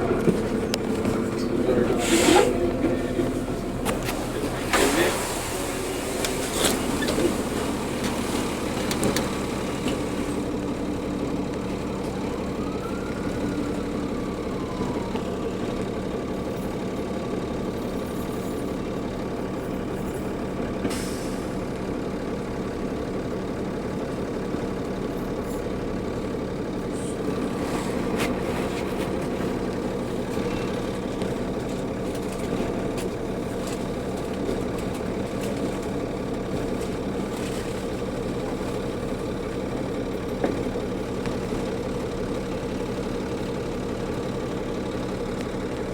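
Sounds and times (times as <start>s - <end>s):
diesel bus engine humming: 0.0s - 45.9s.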